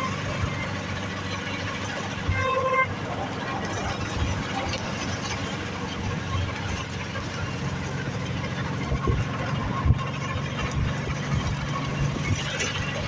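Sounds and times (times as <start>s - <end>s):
engine running with low hum: 0.0s - 13.0s
rushing background noise: 0.0s - 13.0s.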